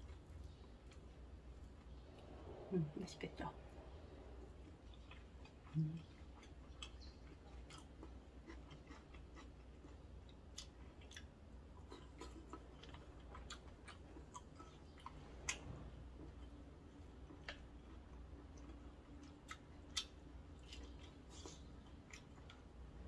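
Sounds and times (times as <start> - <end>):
person chewing: 4.4 - 23.0.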